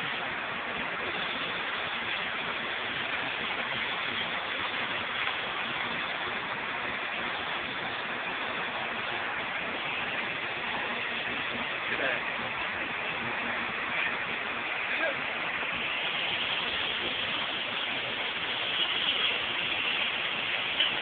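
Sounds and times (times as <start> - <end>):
welding arc hissing: 0.0 - 21.0.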